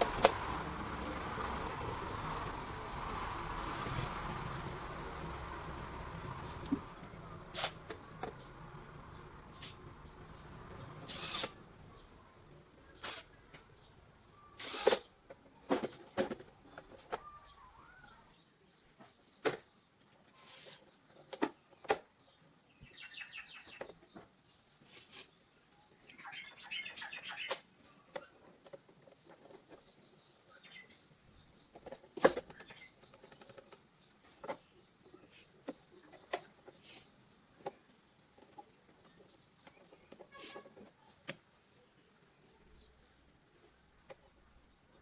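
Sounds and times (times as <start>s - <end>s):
bird chirping: 0.0s - 45.0s.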